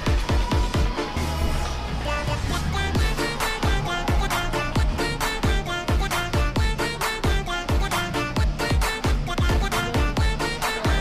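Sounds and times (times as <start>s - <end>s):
pop music: 0.0s - 11.0s.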